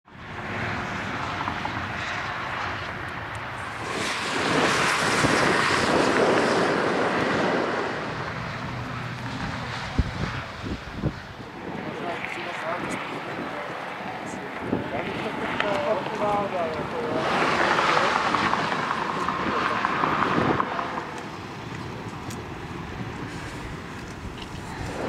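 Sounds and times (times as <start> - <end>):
motorway traffic rushing: 0.1 - 25.0
wind buffeting microphone: 0.2 - 25.0.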